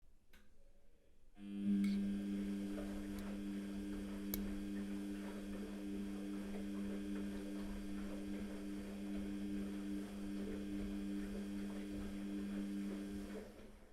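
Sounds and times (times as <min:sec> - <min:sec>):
washing machine motor humming: 0:01.4 - 0:13.9.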